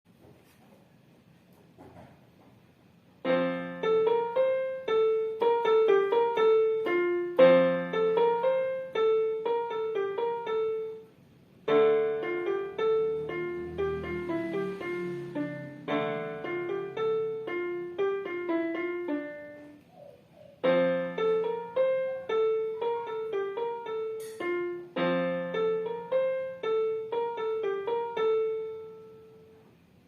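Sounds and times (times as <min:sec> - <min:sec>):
solo piano: 0:01.7 - 0:30.0.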